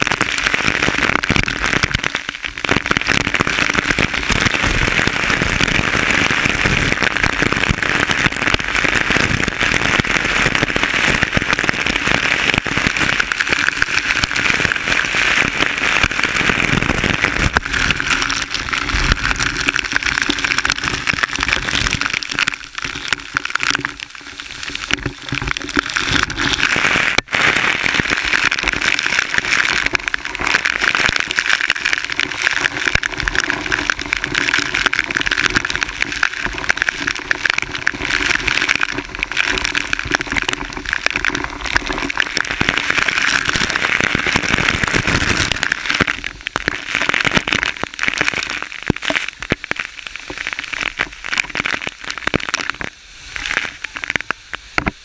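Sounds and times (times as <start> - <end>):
waterfall rushing and spattering: 0.0 - 55.0.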